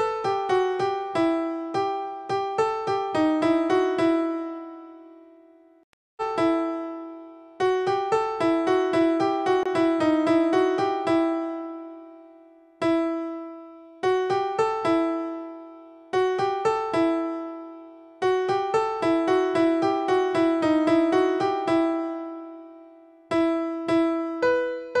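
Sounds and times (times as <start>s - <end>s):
bright keyboard music: 0.0s - 25.0s.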